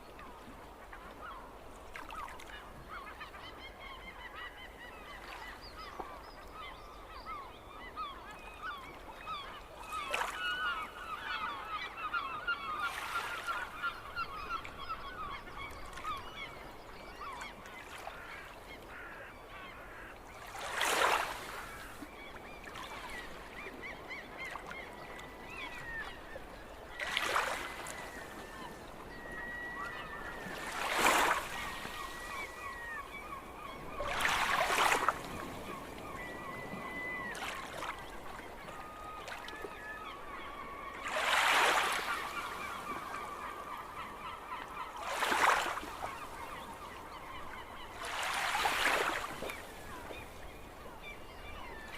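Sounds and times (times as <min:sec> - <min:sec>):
seagulls calling: 0:01.1 - 0:51.9.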